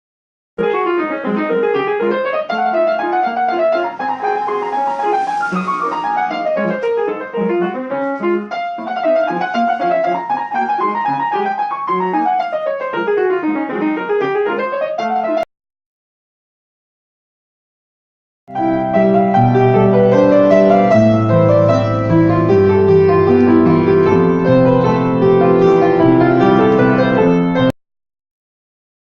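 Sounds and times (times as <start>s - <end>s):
piano arpeggios: 0.6s - 15.4s, 18.5s - 27.7s.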